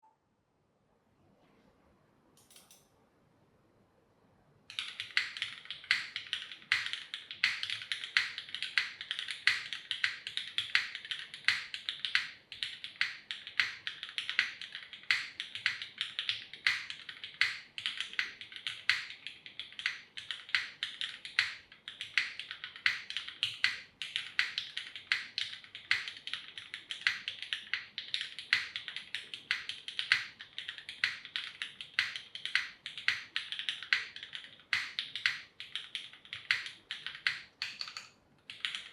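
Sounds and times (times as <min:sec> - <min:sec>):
rapid mechanical keyboard typing: 0:04.7 - 0:38.9.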